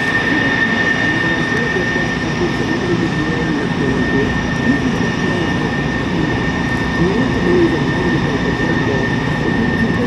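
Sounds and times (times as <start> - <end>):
jet engine whine: 0.0 - 10.0.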